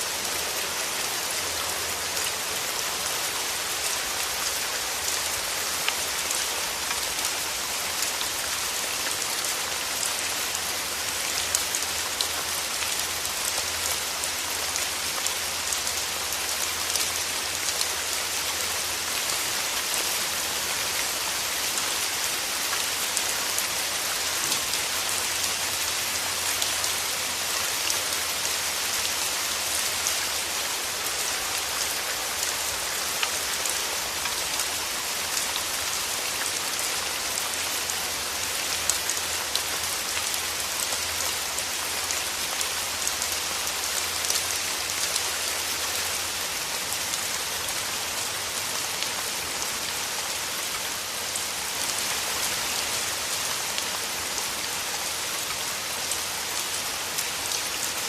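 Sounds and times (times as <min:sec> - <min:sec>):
rain falling through trees: 0:00.0 - 0:58.0.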